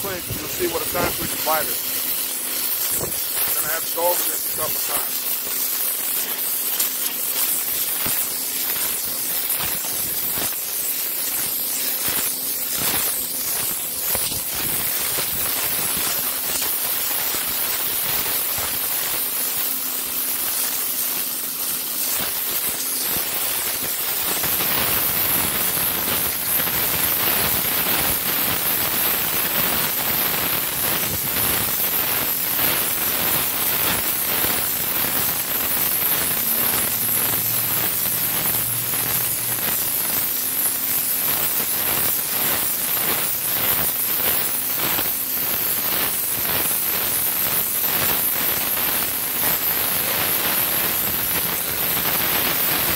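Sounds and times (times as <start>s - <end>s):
pressure washer spraying concrete: 0.0s - 52.9s.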